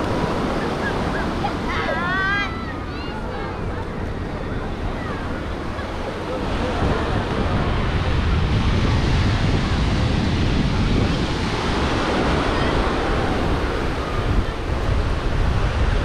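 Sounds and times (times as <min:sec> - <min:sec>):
small waves breaking on beach: 0:00.0 - 0:16.0
wind buffeting microphone: 0:00.0 - 0:16.0.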